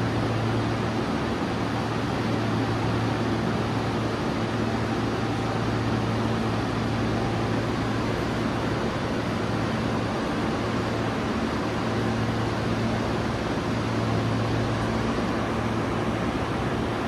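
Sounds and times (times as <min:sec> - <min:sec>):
train hum and fan hiss: 0:00.0 - 0:17.0.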